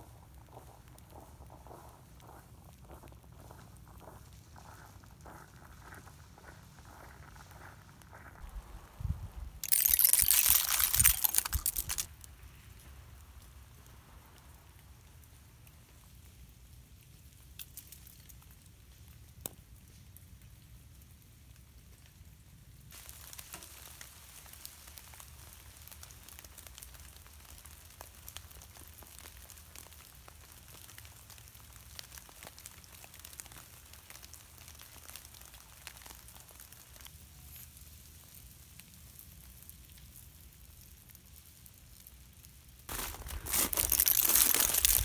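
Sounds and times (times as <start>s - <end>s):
freezing rain crackling on branches: 0.0s - 45.0s.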